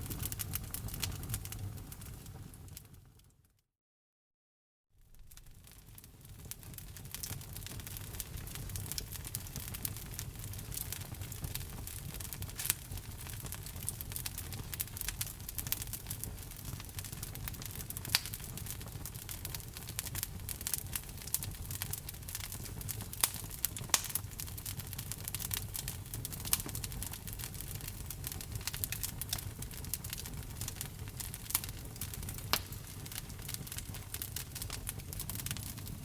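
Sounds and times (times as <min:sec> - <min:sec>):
fire popping: 0:00.0 - 0:03.2, 0:05.0 - 0:36.0
wood fire crackling: 0:00.0 - 0:03.3, 0:05.0 - 0:36.0.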